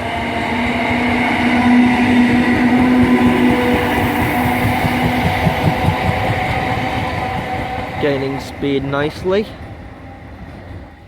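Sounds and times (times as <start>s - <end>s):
electric train passing: 0.0s - 11.0s
train wheels rumbling: 0.0s - 11.0s.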